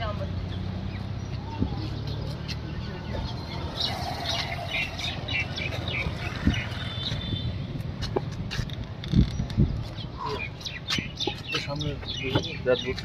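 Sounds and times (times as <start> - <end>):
small birds chirping: 0.0 - 8.4, 9.1 - 13.0.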